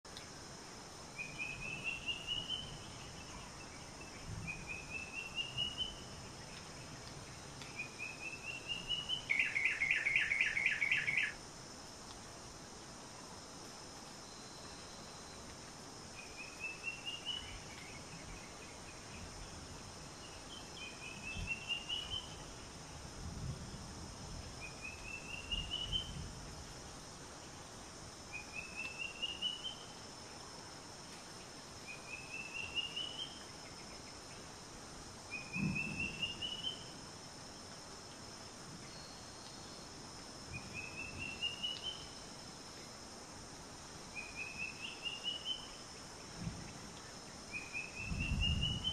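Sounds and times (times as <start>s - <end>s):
steady high hiss: 0.1s - 48.9s.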